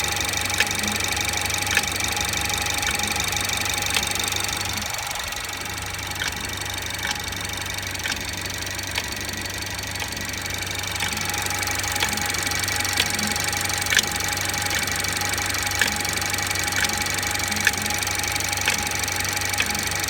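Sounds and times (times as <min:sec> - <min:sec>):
car engine idling: 0:00.0 - 0:20.0
irregular engine ticking: 0:00.0 - 0:20.0.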